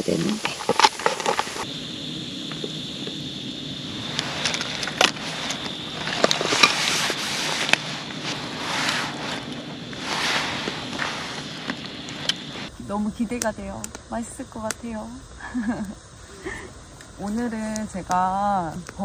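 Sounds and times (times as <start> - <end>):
crackles and sharp ticks: 0.0 - 3.2, 3.9 - 19.0
fire rushing hiss: 0.0 - 19.0.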